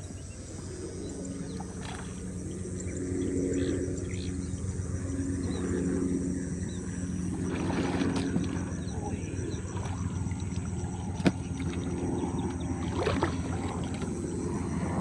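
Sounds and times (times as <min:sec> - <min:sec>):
machine hum with buzzing drone: 0:00.0 - 0:15.0.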